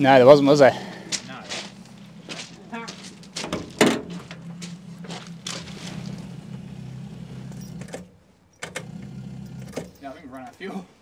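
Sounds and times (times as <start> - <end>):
engine running: 0.0 - 10.4
engine knocks: 0.9 - 10.1.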